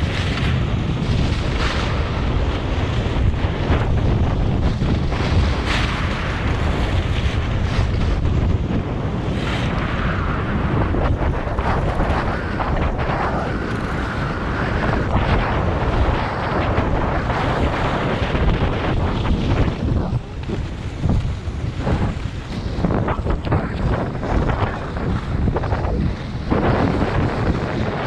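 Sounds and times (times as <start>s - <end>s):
skis scraping on snow: 0.0s - 28.0s
wind on microphone: 0.0s - 28.0s.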